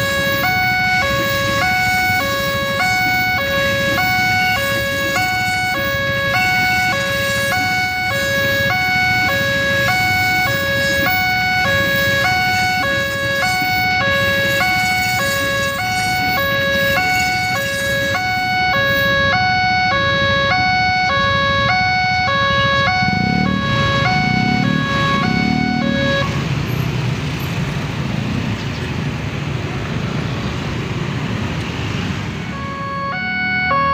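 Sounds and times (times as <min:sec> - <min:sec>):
two-pitch warning siren: 0:00.0 - 0:26.5, 0:32.4 - 0:33.9.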